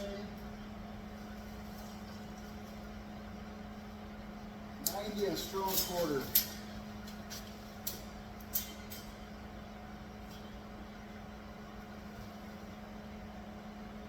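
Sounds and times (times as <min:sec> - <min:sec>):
steady shop hum: 0:00.0 - 0:14.0.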